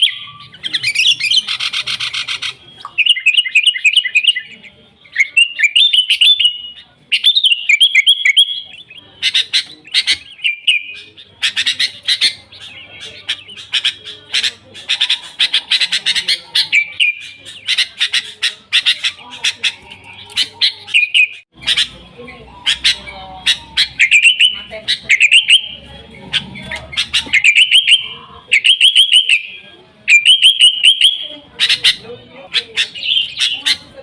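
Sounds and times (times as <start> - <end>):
bulbul singing: 0.0 - 34.0.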